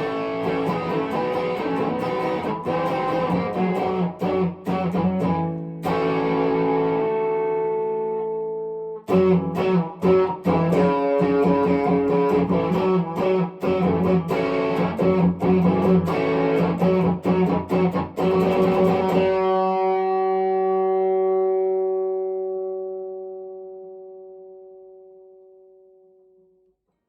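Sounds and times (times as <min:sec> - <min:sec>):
electric guitar playing: 0:00.0 - 0:26.1.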